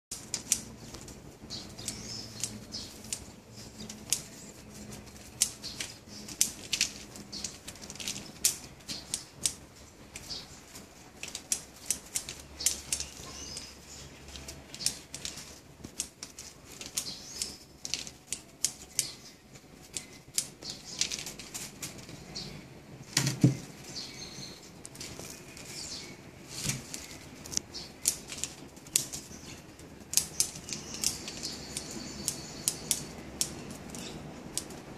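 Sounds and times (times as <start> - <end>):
shears snipping twigs: 0.1 - 22.4, 23.1 - 34.9.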